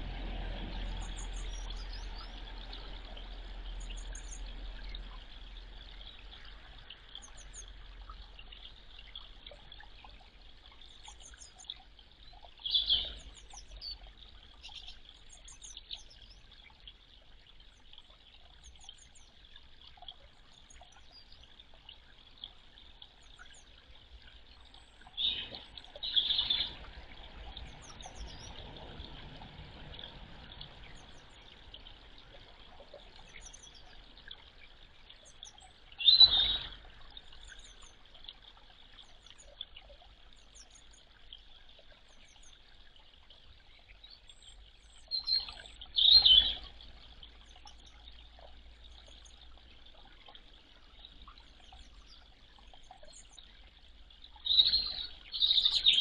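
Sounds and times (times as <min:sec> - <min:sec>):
small birds chirping: 0:00.7 - 0:29.0, 0:29.9 - 0:53.5, 0:54.3 - 0:56.0.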